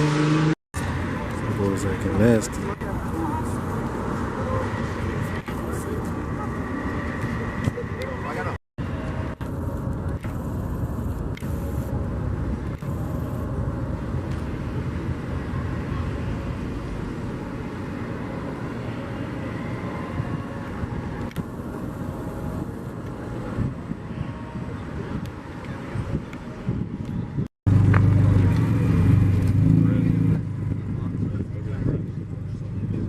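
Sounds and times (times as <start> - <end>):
car engines running: 0.0 - 33.0.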